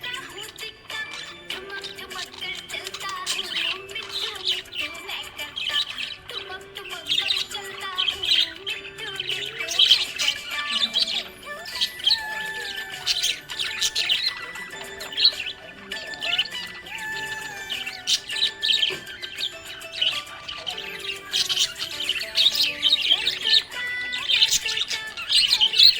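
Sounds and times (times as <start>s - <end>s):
budgie chirping and chattering: 0.0s - 25.9s.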